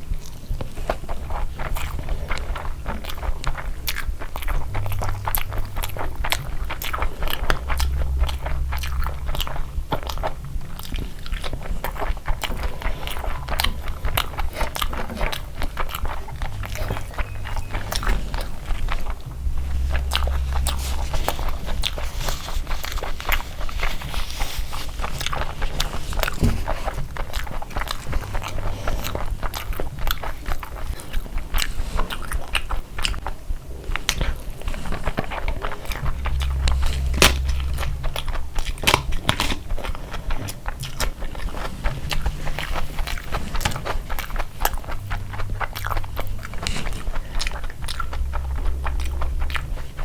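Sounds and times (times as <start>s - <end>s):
food crunching: 0.0s - 50.0s
person chewing food: 0.0s - 50.0s
mouth clicks: 0.1s - 50.0s.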